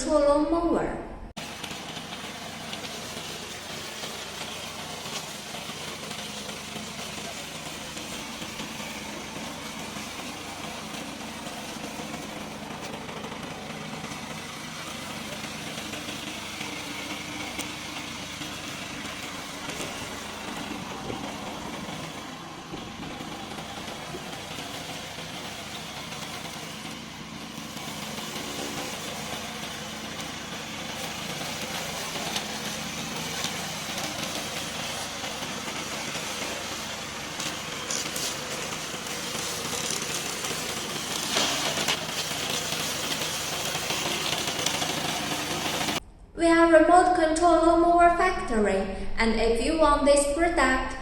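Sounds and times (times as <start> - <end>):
mower engine running: 1.4 - 46.0.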